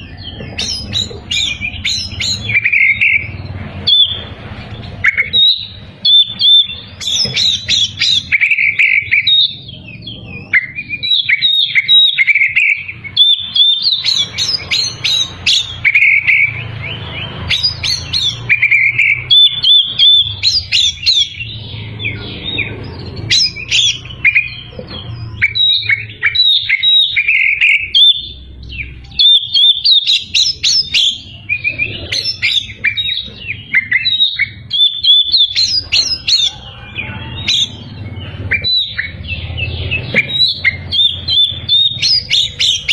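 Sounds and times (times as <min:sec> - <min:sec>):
bird singing whistles and chatter: 0:00.0 - 0:42.9.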